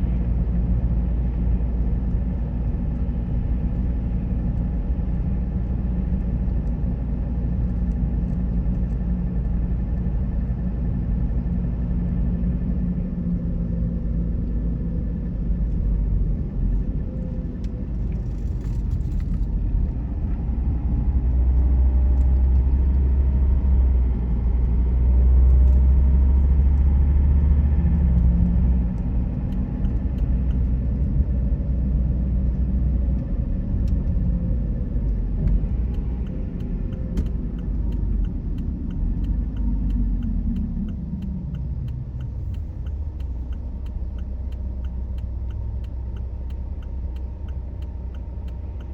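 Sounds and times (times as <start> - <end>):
car engine and tyre rumble: 0.0 - 48.9.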